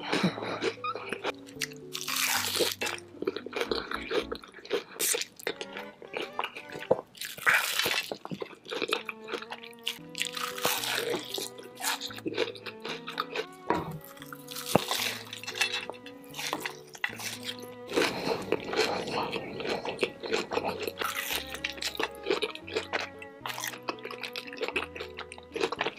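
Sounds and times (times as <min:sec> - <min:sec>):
soft background music: 0:00.0 - 0:25.9
wet squishy eating: 0:00.0 - 0:25.9.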